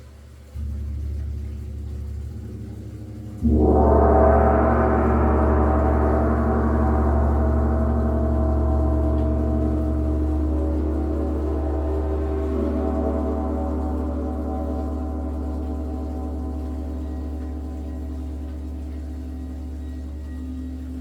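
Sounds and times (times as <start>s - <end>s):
gong ringing: 0.6s - 21.0s.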